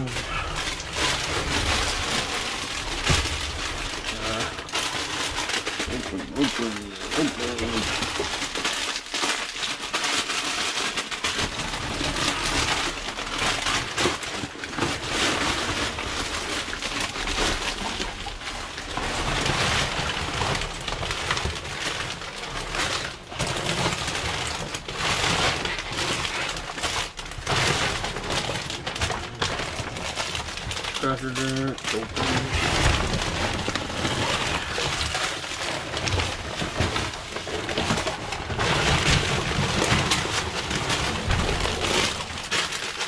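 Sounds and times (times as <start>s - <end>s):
plastic bags crinkling and rustling: 0.0s - 43.0s.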